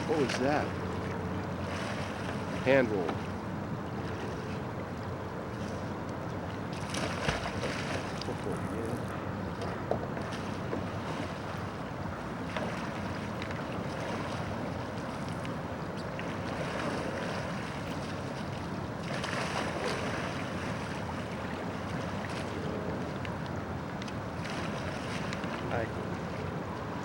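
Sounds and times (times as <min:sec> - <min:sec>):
waves and lapping water: 0:00.0 - 0:27.0.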